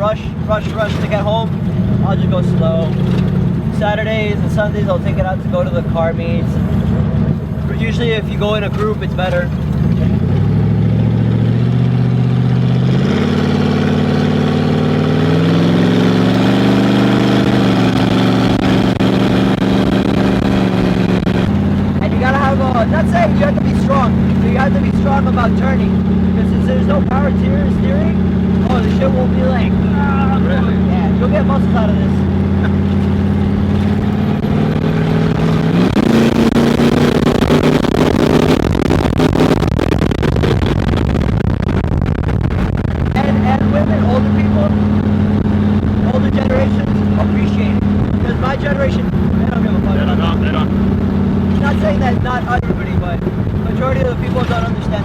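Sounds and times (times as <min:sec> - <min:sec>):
car engine running loud: 0:00.0 - 0:55.0.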